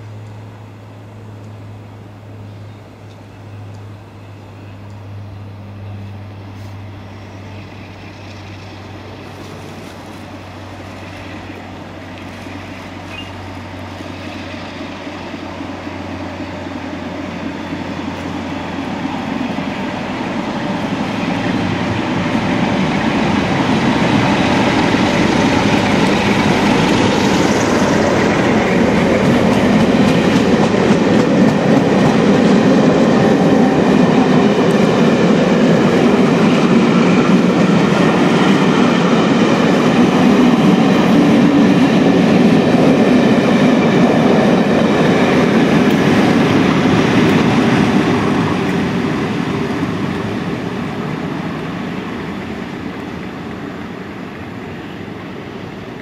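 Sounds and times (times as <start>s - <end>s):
diesel locomotive passing: 0.0s - 56.0s
wheels on rails: 7.0s - 56.0s.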